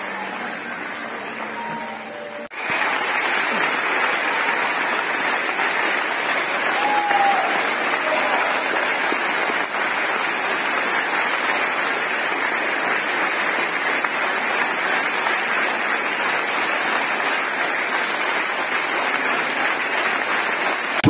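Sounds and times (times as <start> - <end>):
large audience applauding: 0.0 - 21.0.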